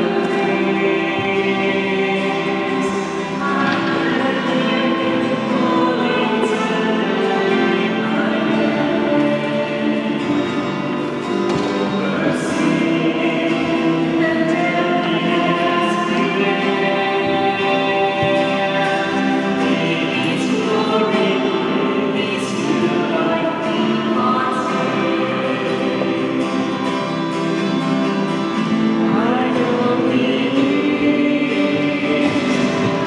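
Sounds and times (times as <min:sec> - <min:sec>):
woman singing a hymn: 0:00.0 - 0:10.8, 0:11.9 - 0:26.4, 0:29.0 - 0:33.0
acoustic guitar: 0:00.0 - 0:33.0.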